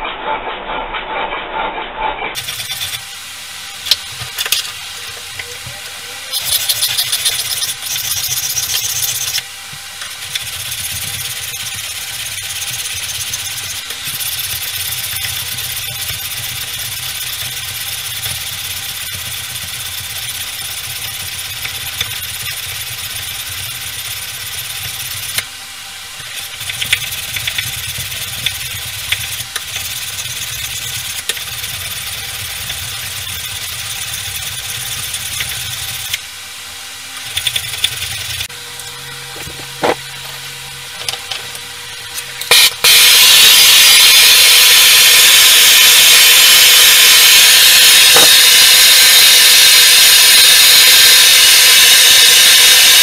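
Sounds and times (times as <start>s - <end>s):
power tool grinding metal: 2.4s - 36.3s, 37.0s - 53.0s.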